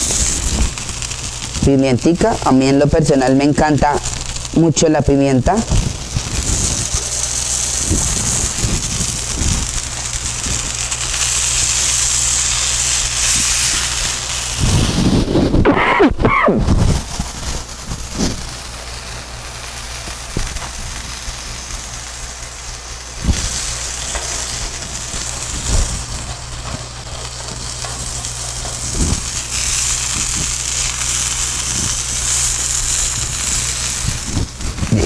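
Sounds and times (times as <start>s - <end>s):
food sizzling on a griddle: 0.0s - 35.0s
low steady hum: 0.0s - 35.0s.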